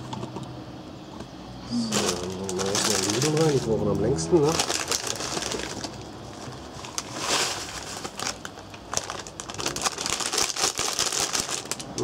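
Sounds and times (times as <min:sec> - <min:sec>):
plastic packet crinkling: 0:01.9 - 0:12.0.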